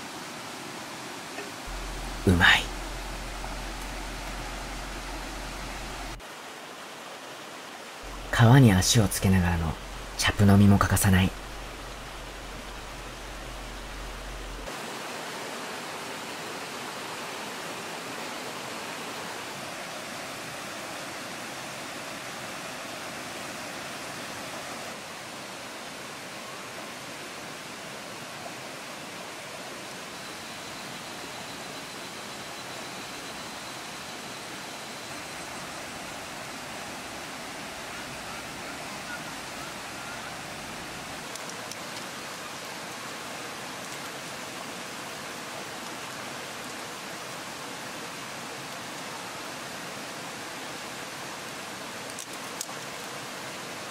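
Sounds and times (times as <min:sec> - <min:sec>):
mountain stream rushing over stones: 0:00.0 - 0:53.9.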